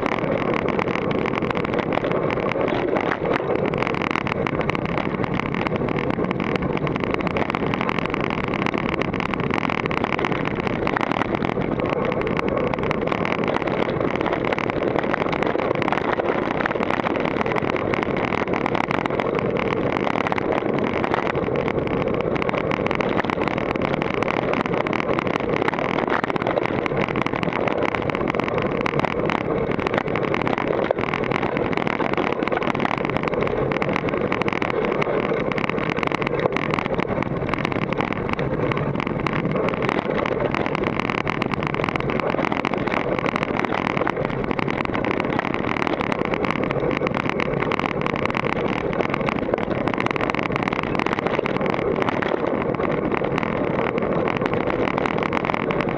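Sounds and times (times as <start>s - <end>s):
bike rattling over dirt trail: 0.0s - 55.9s
wind rushing on microphone: 0.0s - 55.9s.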